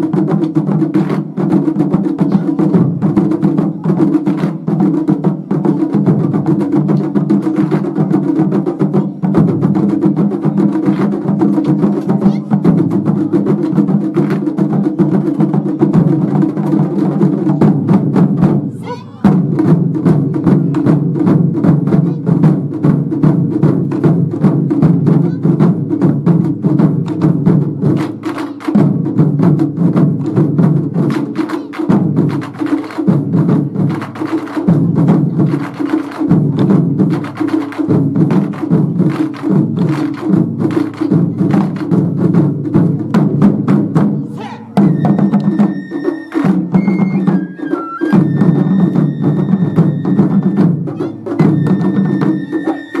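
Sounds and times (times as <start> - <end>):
taiko drums playing fast: 0.0 - 53.0.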